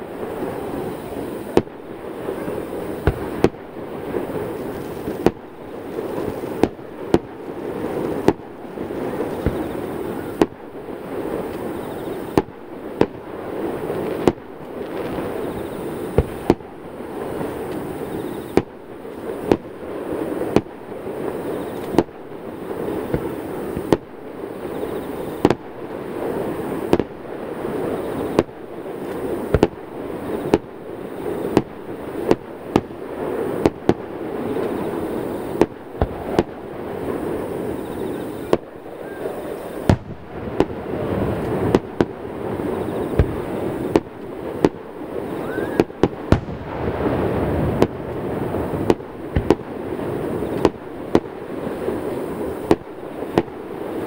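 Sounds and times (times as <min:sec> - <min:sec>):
firework shells bursting: 0:00.6 - 0:24.1, 0:24.7 - 0:53.6.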